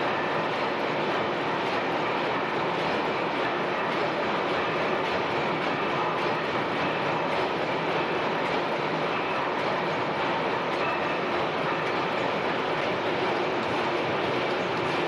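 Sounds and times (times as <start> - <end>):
gas pumping engines running: 0.0 - 15.0.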